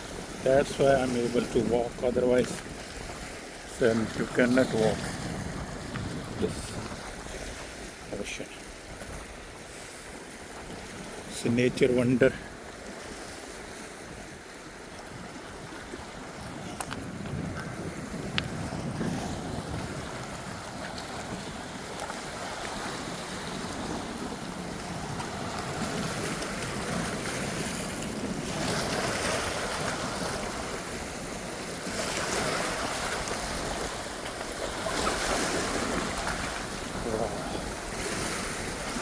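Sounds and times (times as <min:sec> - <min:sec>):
wind on microphone: 0:00.0 - 0:11.2, 0:12.5 - 0:39.0
ocean waves washing on shore: 0:00.0 - 0:39.0.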